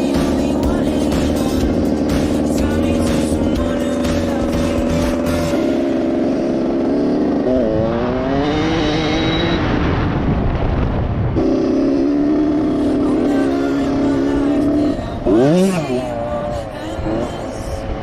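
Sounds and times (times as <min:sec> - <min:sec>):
dirt bike engine revving: 0:00.0 - 0:10.3, 0:11.4 - 0:18.0.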